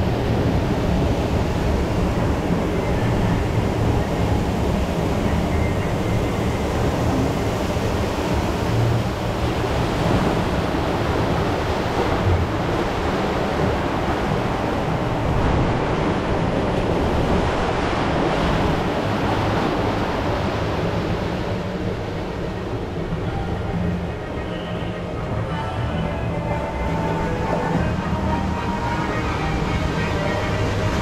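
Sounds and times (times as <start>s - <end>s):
water rushing through rapids: 0.0s - 31.0s.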